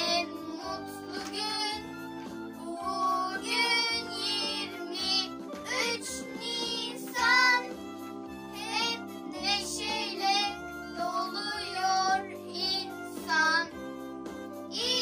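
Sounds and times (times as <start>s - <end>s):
child singing: 0.0s - 1.8s, 2.6s - 7.7s, 8.6s - 13.7s, 14.7s - 15.0s
instrumental accompaniment with bass: 0.0s - 15.0s.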